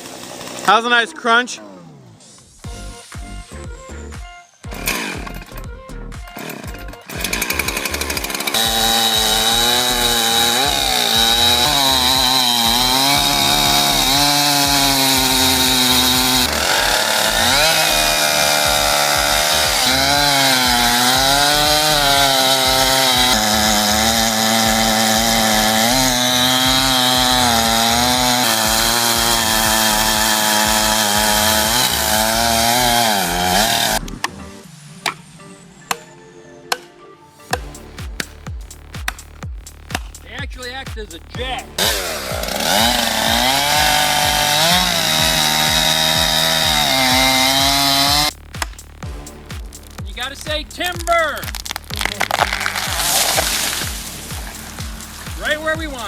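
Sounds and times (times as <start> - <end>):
chainsaw cutting: 0.0 - 1.1, 4.6 - 34.3, 37.5 - 56.0.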